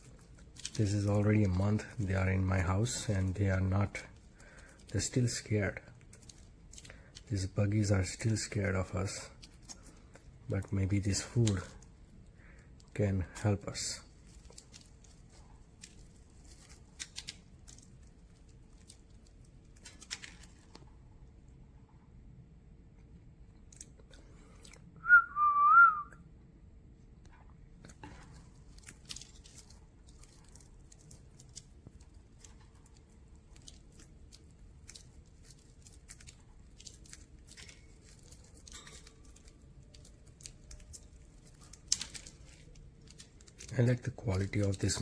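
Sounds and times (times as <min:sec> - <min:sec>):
budgies pecking seeds: 0:00.0 - 0:20.8, 0:28.2 - 0:45.0.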